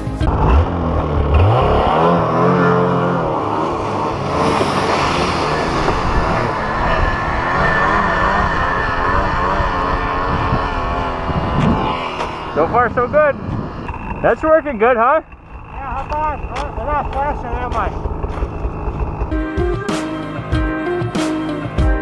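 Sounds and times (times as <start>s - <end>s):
snowmobile engine revving: 0.0s - 20.6s.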